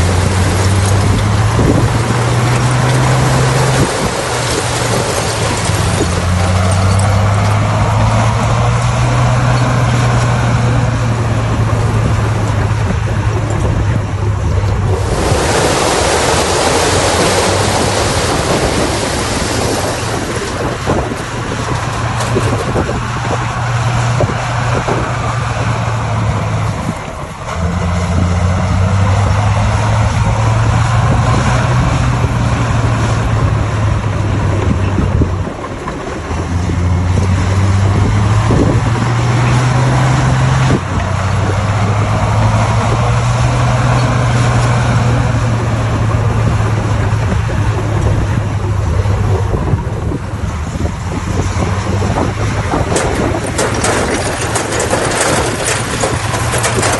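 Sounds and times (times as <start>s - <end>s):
bulldozer diesel engine: 0.0s - 56.9s.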